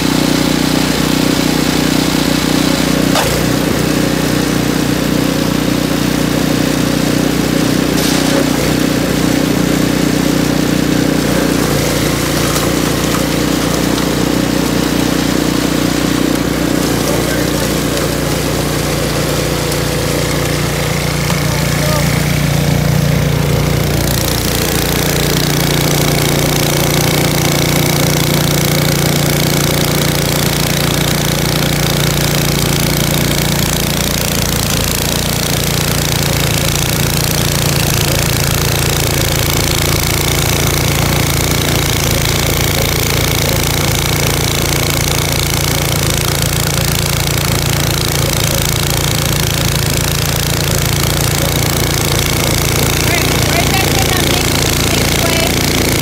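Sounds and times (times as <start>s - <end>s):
snow blower engine running: 0.0s - 56.0s.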